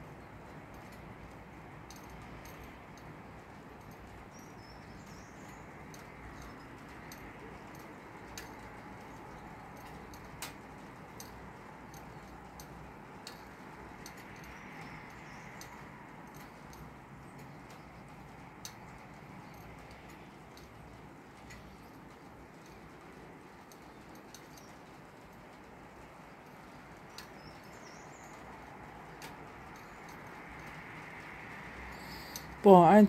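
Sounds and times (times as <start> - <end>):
soft hiss of rain: 0.0 - 33.0
raindrops ticking: 0.5 - 33.0.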